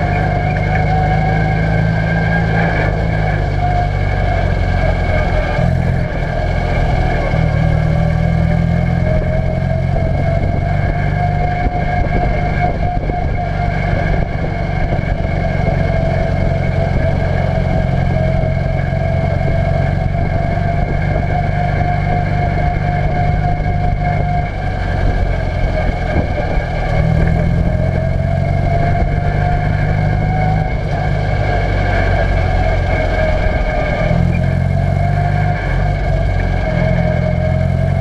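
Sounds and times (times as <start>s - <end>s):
race car engine running hard: 0.0s - 38.0s.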